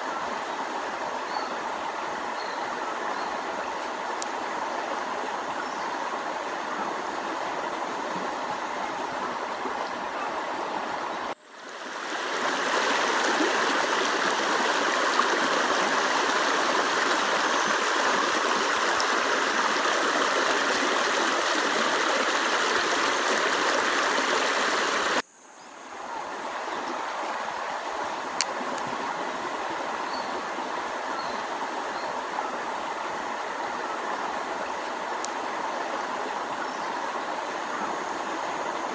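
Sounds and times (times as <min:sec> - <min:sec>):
running water rushing: 0:00.0 - 0:25.2, 0:25.8 - 0:38.9.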